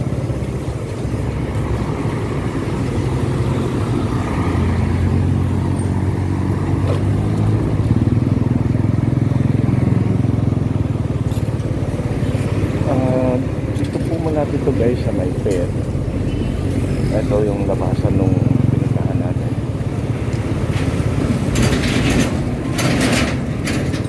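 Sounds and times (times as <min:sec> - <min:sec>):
car engines passing: 0:00.0 - 0:24.0
motorcycle engines passing: 0:00.0 - 0:24.0.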